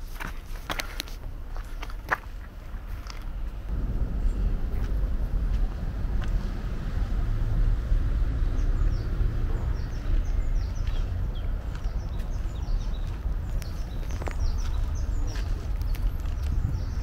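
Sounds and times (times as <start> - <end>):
steady low rumble: 1.3 - 17.0
small songbirds chirping: 3.3 - 17.0.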